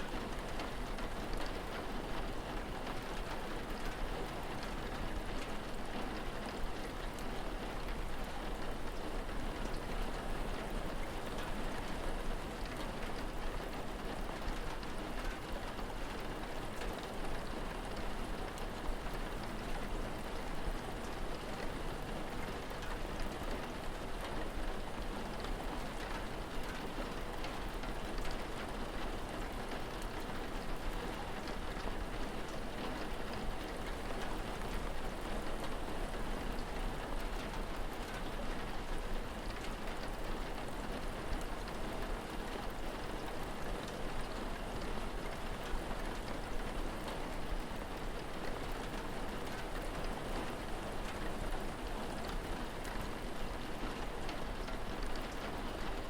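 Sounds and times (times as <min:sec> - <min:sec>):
patter of raindrops on surfaces: 0:00.0 - 0:56.0
steady rain falling: 0:00.0 - 0:56.0.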